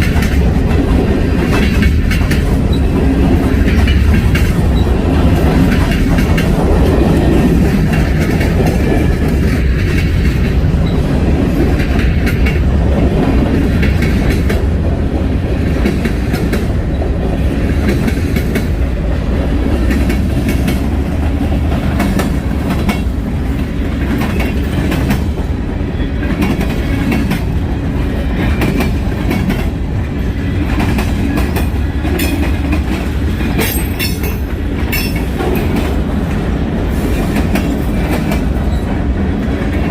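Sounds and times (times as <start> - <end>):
wheels clicking over rail joints: 0.0 - 14.7, 15.7 - 39.9
freight train rumbling past: 0.0 - 39.9.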